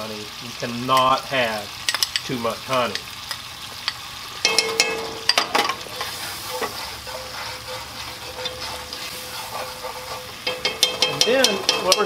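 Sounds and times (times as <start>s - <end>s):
sauce sizzling in skillet: 0.0s - 12.0s
utensil clicking on pan: 1.8s - 12.0s.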